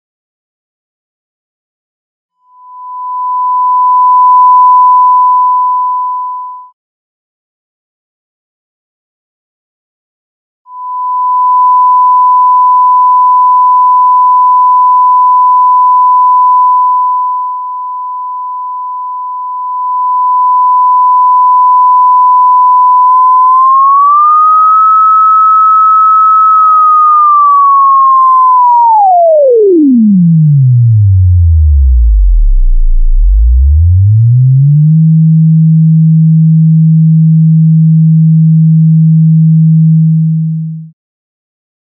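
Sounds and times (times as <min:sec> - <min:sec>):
pure sine tone: 0:02.4 - 0:06.8, 0:10.7 - 0:41.0.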